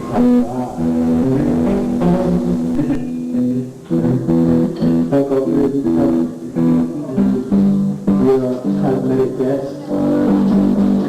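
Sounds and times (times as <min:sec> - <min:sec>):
live band jamming: 0:00.0 - 0:11.0.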